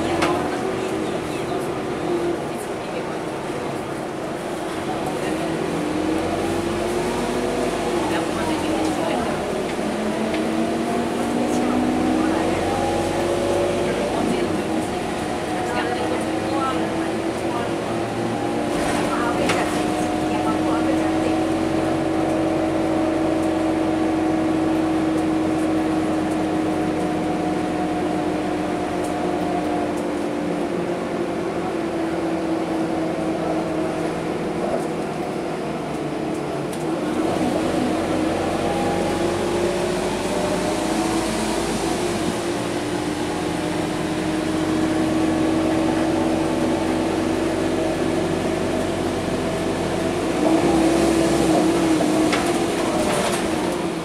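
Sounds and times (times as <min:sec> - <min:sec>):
bus diesel engine whining: 0:00.0 - 0:54.0.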